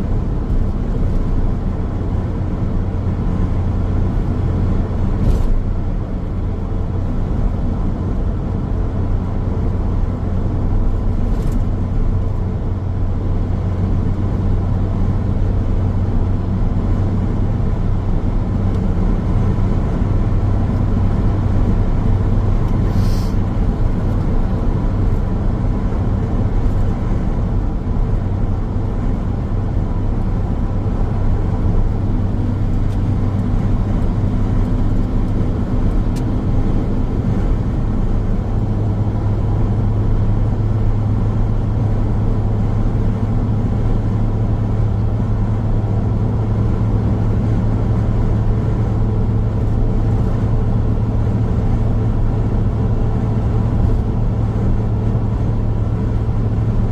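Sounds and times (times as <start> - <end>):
low car drone: 0.0 - 56.9
road and tyre noise: 0.0 - 56.9.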